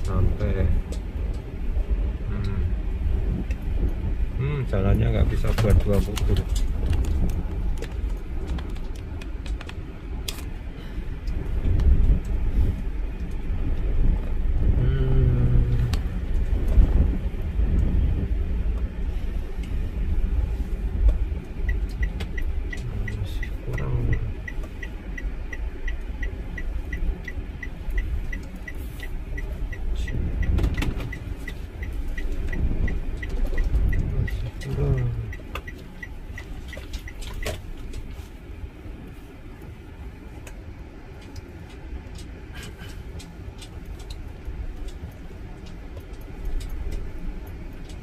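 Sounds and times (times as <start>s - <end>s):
car engine and road rumble: 0.0s - 48.0s
light regular ticking: 0.0s - 48.0s.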